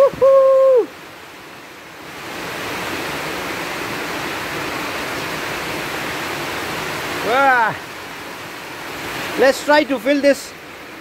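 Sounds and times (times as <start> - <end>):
heavy rain on concrete: 0.0 - 11.0.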